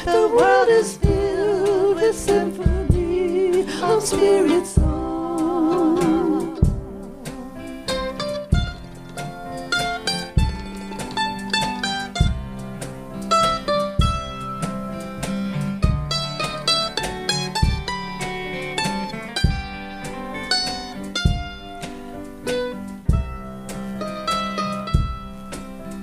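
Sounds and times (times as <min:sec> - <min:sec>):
plucked-string melody: 0:00.0 - 0:26.0
deep drum beat: 0:00.1 - 0:26.0.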